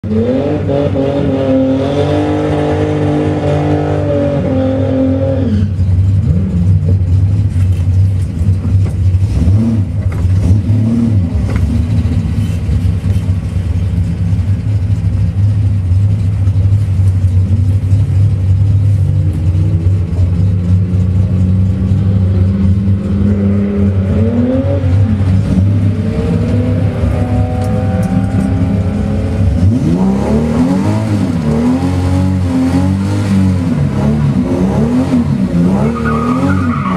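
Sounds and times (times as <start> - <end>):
car engine revving and idling: 0.0 - 36.9.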